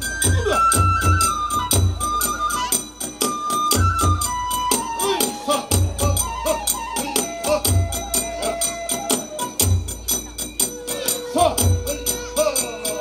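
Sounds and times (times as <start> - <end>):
bamboo flute melody: 0.0 - 13.0
small hand cymbals clashing: 0.0 - 13.0.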